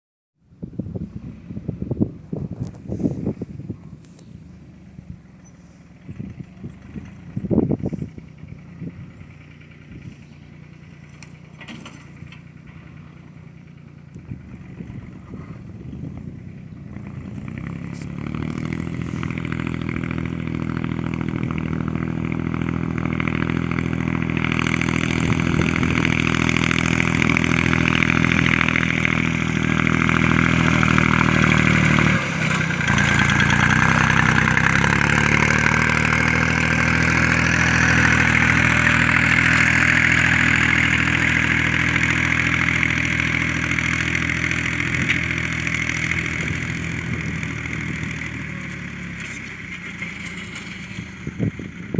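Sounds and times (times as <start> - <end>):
tractor diesel engine running: 0.6 - 51.9.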